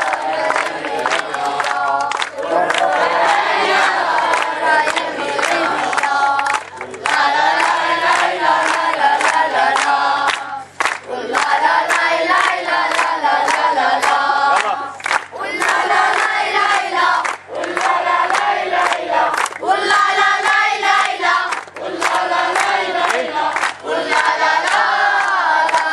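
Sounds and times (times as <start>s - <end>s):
children clapping in time: 0.0s - 25.9s
children singing a chant: 0.0s - 25.9s.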